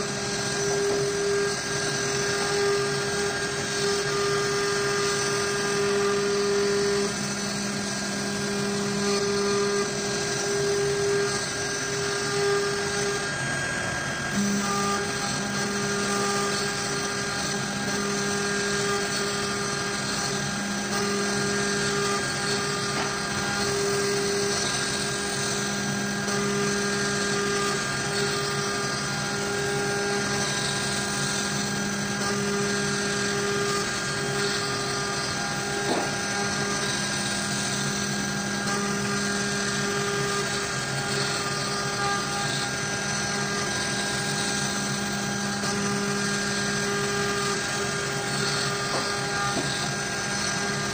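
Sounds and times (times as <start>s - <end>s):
end mill cutting wood: 0.0s - 50.9s
router spindle whine: 0.0s - 50.9s.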